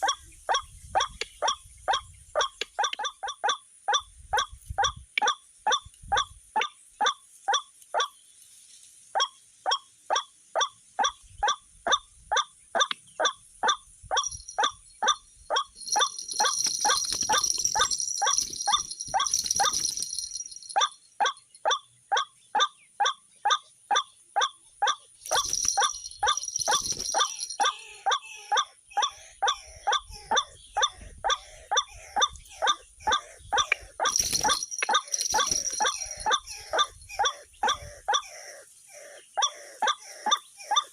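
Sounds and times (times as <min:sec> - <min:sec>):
waterhen calls: 0:00.0 - 0:08.1, 0:09.2 - 0:40.9.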